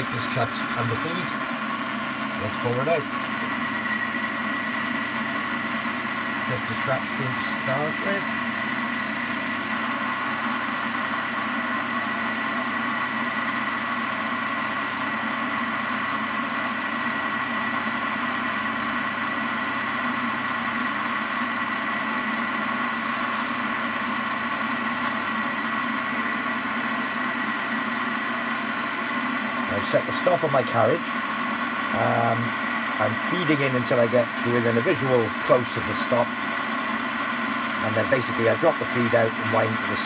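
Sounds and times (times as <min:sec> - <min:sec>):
metal lathe humming with high whine: 0:00.0 - 0:40.0.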